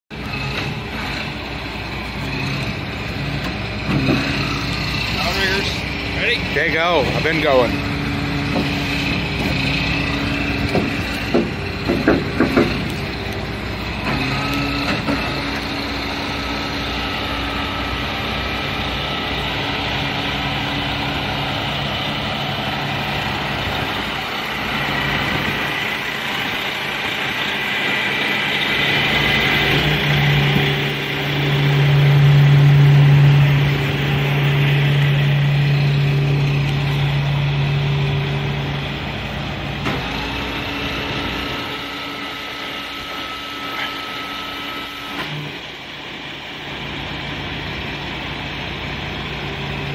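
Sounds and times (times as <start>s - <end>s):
hydraulic pump: 0.1s - 20.0s, 23.2s - 49.9s
diesel truck engine running: 0.1s - 49.9s
loud steady drone: 0.1s - 49.9s.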